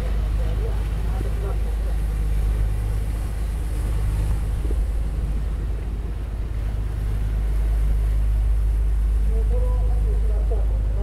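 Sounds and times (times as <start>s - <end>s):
low engine rumble: 0.0s - 11.0s
wind buffeting microphone: 0.0s - 11.0s.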